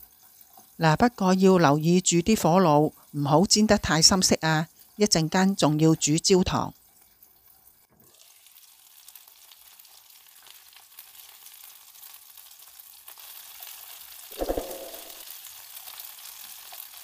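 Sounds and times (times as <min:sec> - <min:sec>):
chicken wings sizzling in oil: 0:00.0 - 0:17.0.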